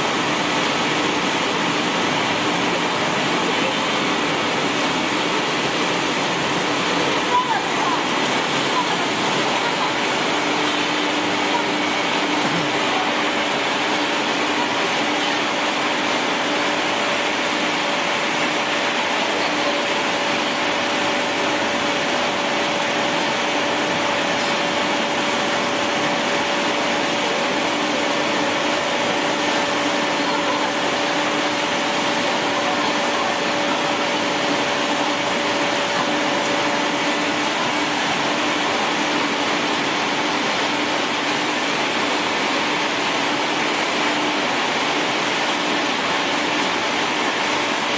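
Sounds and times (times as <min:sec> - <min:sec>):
pellet mill machine drone: 0:00.0 - 0:47.9.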